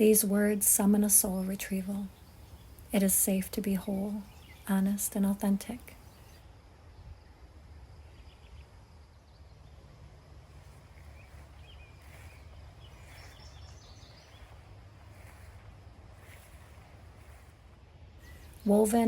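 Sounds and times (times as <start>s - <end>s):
low steady rumble: 0.0s - 19.0s
faint bird chirps: 2.1s - 9.9s, 10.5s - 17.5s, 18.1s - 19.0s.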